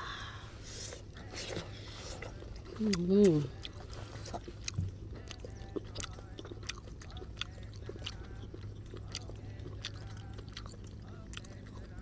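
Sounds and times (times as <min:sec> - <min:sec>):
steady low hum: 0:00.0 - 0:12.0
person chewing food: 0:00.6 - 0:12.0.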